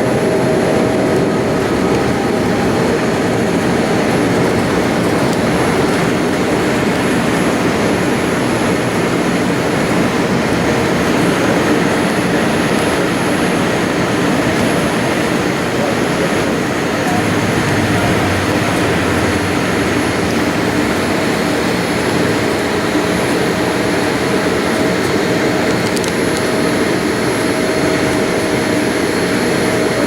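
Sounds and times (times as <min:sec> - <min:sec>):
jet engine cabin noise: 0:00.0 - 0:30.0.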